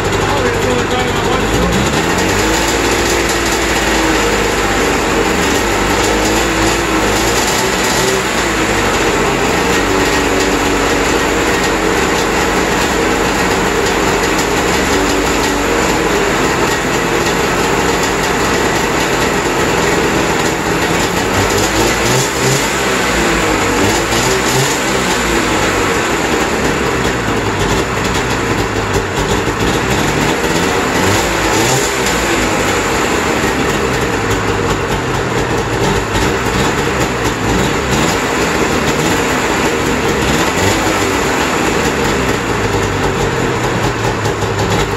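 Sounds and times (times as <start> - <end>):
snowmobile engine idling: 0.0 - 44.9.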